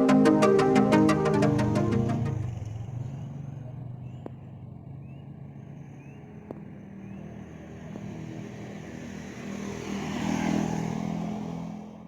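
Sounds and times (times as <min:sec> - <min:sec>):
vehicle engine passing by: 0:00.4 - 0:12.0.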